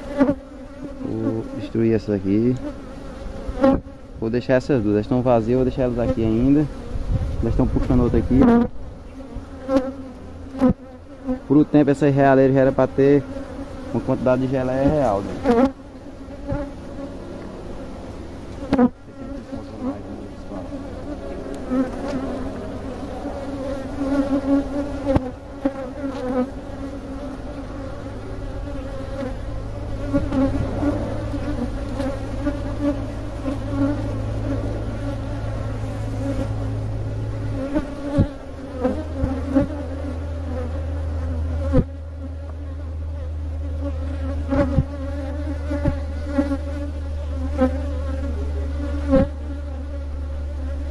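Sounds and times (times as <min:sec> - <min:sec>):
honeybees buzzing: 0:00.0 - 0:50.9.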